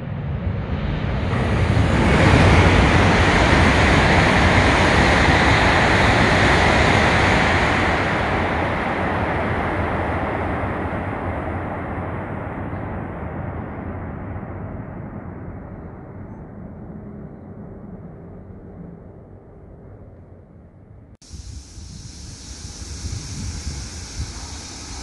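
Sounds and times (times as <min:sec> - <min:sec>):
high-speed train passing: 0:00.0 - 0:19.8, 0:21.2 - 0:25.0.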